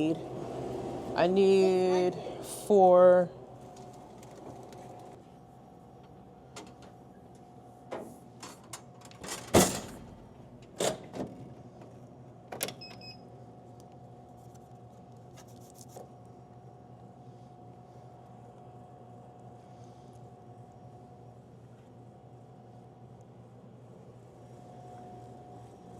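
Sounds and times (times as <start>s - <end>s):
steady hum: 0.0s - 12.5s, 13.1s - 25.9s.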